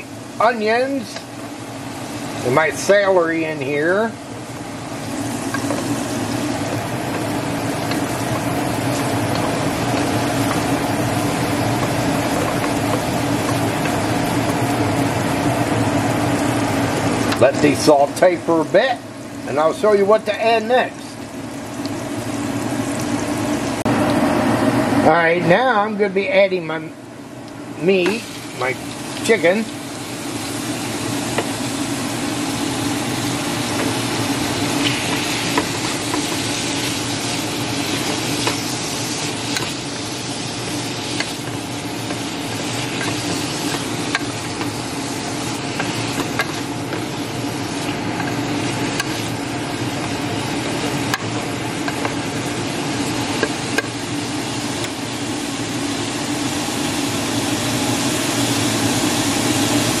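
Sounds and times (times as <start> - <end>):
food sizzling in a pot: 0.0 - 24.4, 27.9 - 60.0
steady low hum: 0.0 - 60.0.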